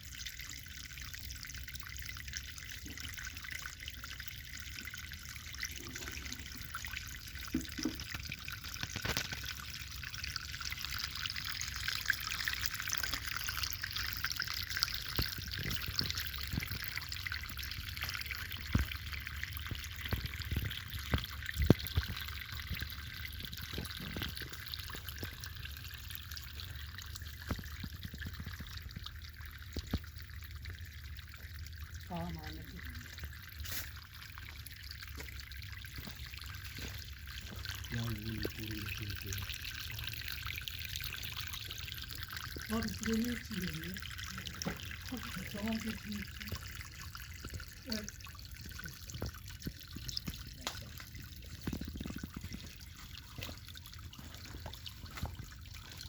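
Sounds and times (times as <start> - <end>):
water running and splashing: 0.0 - 56.0.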